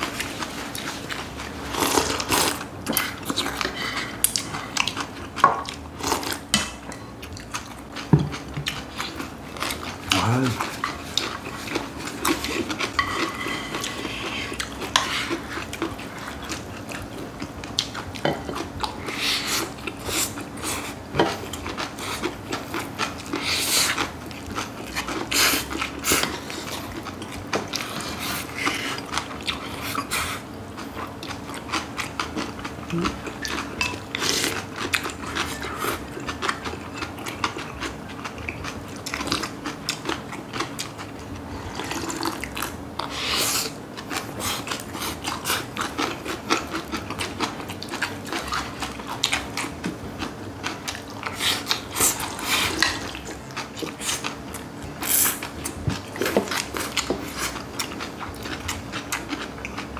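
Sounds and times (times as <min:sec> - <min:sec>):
chewing and crunching greens: 0:00.0 - 0:59.9.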